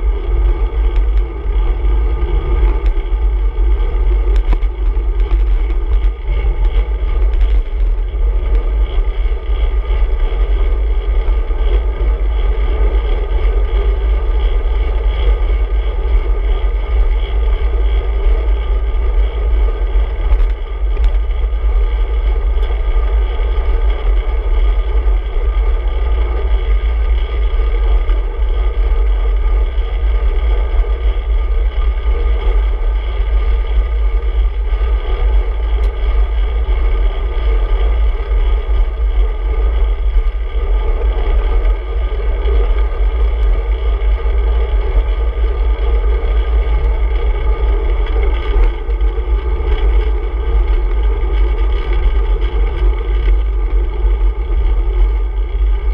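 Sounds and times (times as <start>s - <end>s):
constant hum: 0.0s - 55.9s
wind buffeting microphone: 0.0s - 55.9s.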